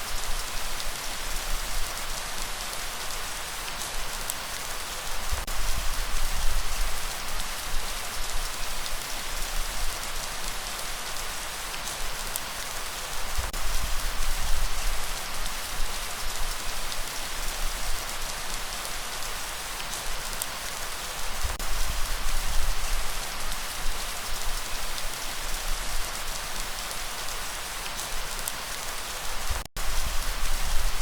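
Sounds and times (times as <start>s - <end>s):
heavy rain pattering: 0.0s - 31.0s.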